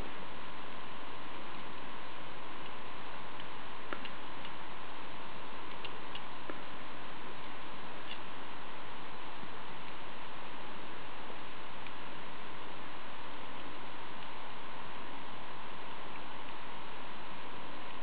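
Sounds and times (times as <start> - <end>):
faint constant hum: 0.0 - 18.0
steady hiss: 0.0 - 18.0.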